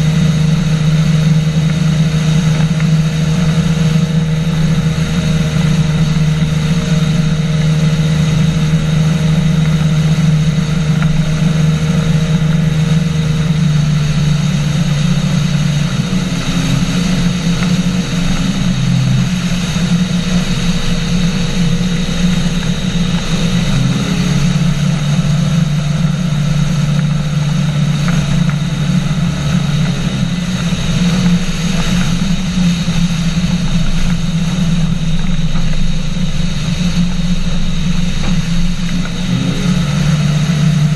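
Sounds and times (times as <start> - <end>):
aircraft engine and propeller droning: 0.0 - 40.9.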